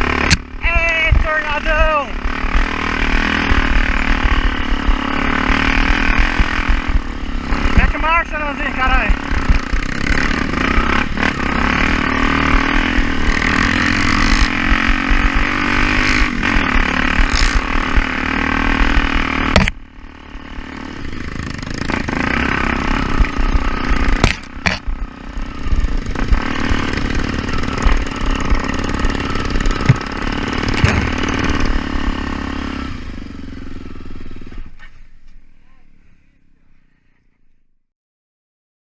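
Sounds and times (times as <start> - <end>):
motorcycle engine revving: 0.0 - 37.4.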